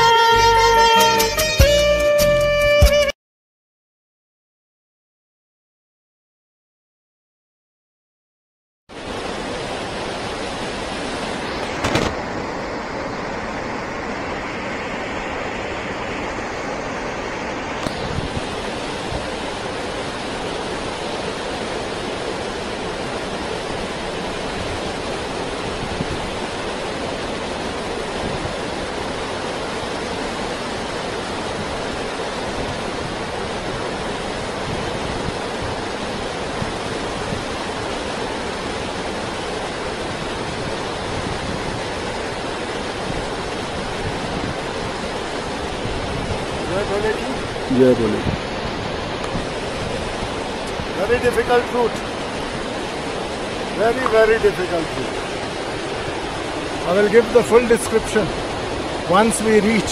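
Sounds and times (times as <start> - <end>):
river rushing: 0.0 - 3.0, 8.9 - 59.9.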